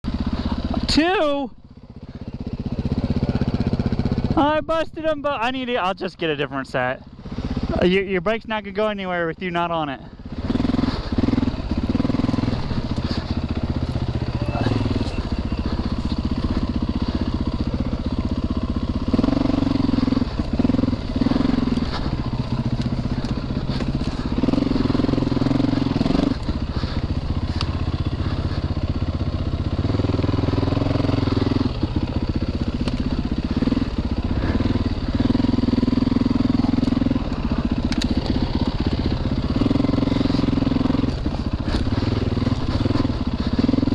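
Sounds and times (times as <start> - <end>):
dirt bike engine revving: 0.1 - 5.7, 7.1 - 43.9.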